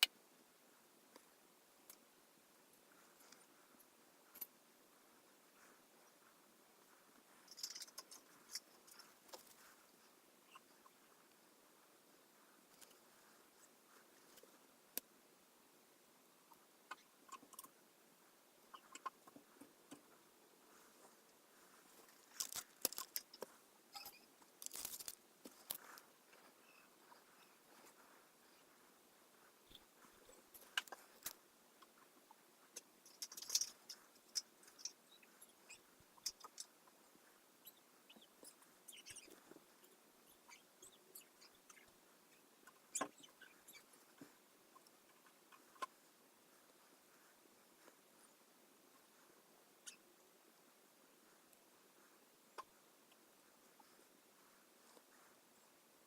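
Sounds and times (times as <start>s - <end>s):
faint hiss: 0.0s - 56.0s
small clicks and light scratching: 1.1s - 15.2s, 16.4s - 55.8s.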